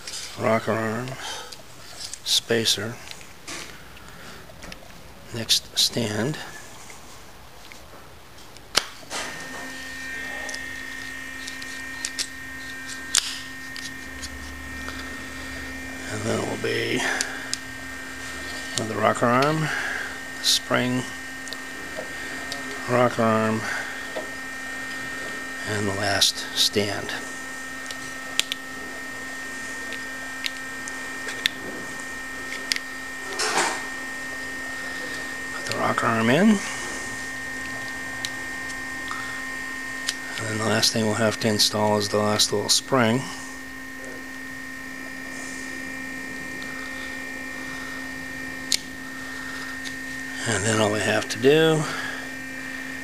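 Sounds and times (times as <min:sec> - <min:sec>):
machine hum with high whine: 0:00.0 - 0:53.0.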